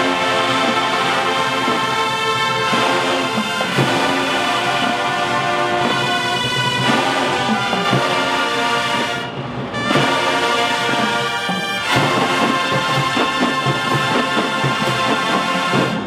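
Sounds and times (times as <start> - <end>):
brass band chords: 0.0 - 16.0
drum hits: 0.0 - 16.0.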